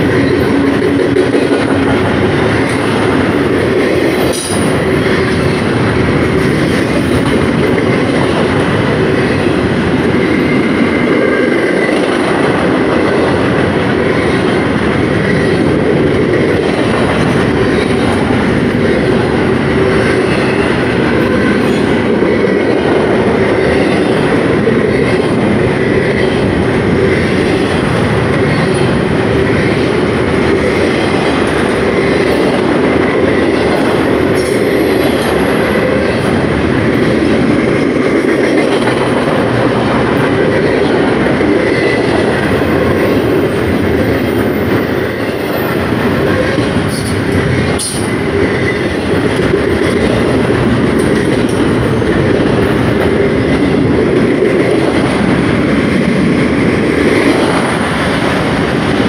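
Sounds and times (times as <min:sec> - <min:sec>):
train wheels rumbling over rails: 0:00.0 - 0:59.0.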